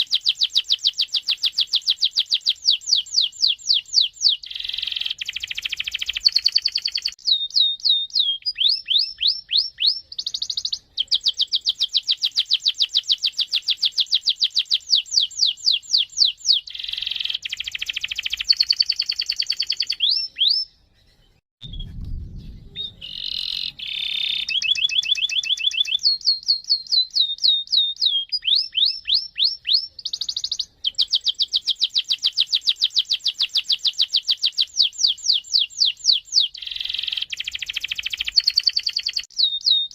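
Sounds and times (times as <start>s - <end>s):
canary singing trills: 0.0s - 21.4s, 22.6s - 39.9s.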